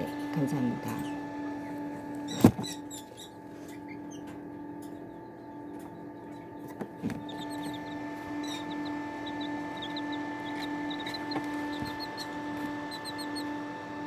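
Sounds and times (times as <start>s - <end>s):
chicks peeping: 0.0s - 14.0s
steady hum: 0.0s - 14.0s.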